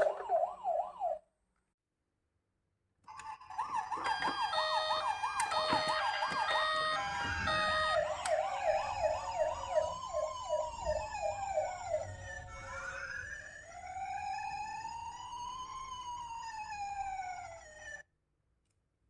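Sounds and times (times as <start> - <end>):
fast warbling siren: 0.0 - 1.3, 3.1 - 18.0
slow rising and falling siren: 0.0 - 1.3, 3.1 - 18.1
two-tone hi-lo siren: 0.0 - 1.3, 3.1 - 18.0.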